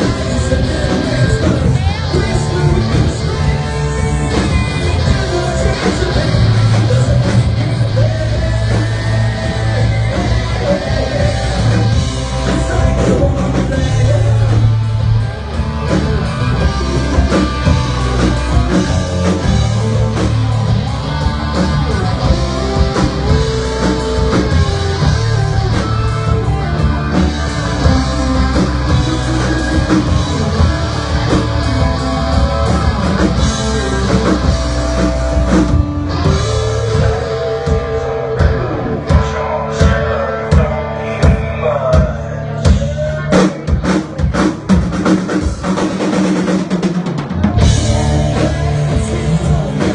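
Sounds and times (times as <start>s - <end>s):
person singing: 0.0s - 46.8s, 47.4s - 49.9s
drums: 0.0s - 49.9s
electric guitar: 0.0s - 49.9s.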